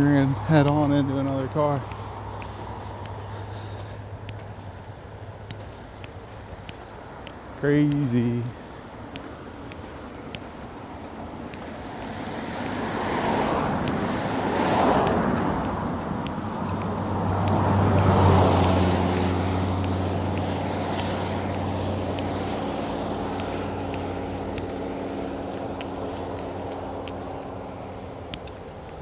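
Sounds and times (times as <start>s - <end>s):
cars passing: 0.0s - 29.0s
low engine hum: 0.0s - 29.0s.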